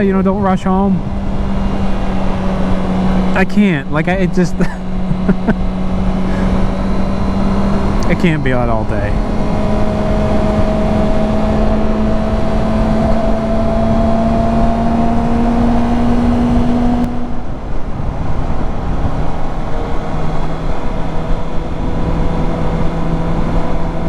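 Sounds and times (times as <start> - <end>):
motorcycle engine running: 0.0 - 24.0
wind rush over microphone: 4.1 - 24.0.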